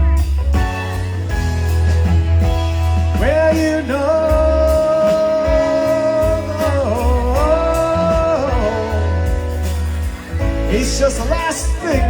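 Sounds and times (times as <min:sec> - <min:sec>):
live rock band playing ballad: 0:00.0 - 0:12.0.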